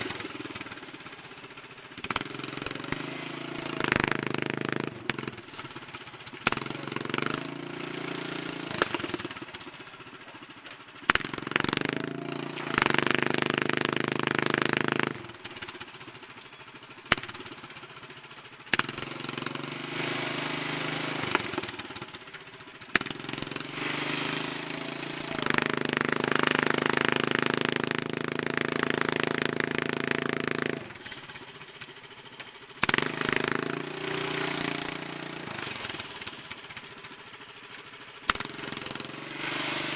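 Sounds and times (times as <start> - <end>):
small gas engine revving: 0.0 - 16.1, 17.1 - 39.9.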